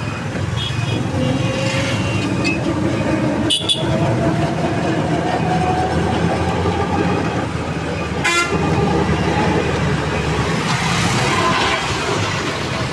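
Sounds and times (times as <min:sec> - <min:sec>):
vehicle rumble: 0:00.0 - 0:12.9.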